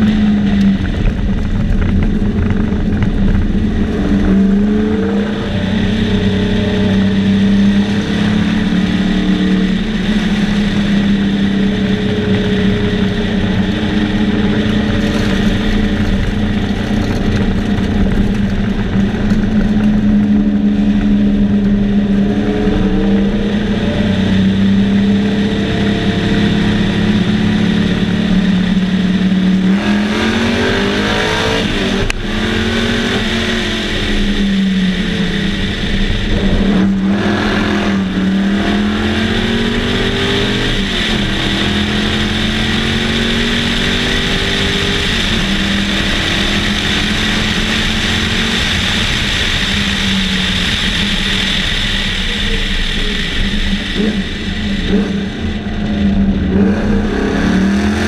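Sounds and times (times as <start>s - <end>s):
race car engine revving: 0.0s - 58.0s
wind noise: 0.0s - 58.0s.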